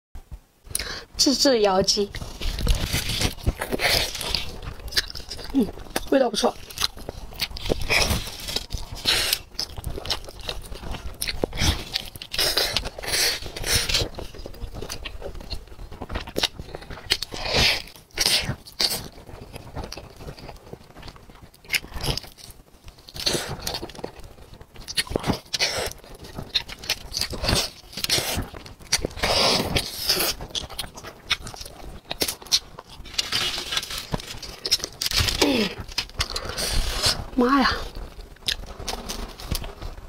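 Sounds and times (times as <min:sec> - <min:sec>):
chewing: 0:02.0 - 0:39.9.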